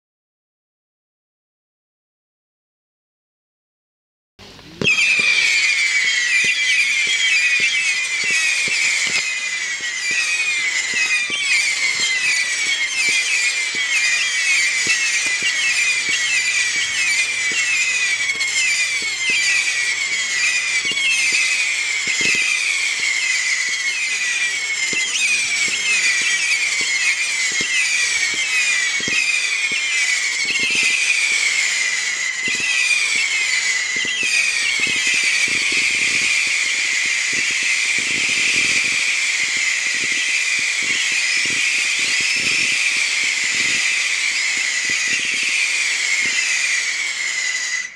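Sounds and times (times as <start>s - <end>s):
fireworks popping: 4.4s - 47.9s
fireworks whistling: 4.4s - 47.9s.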